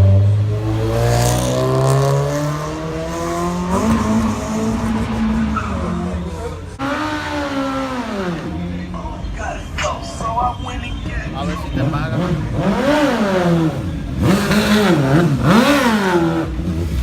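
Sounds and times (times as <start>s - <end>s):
car engine accelerating: 0.0s - 9.9s, 11.3s - 17.0s.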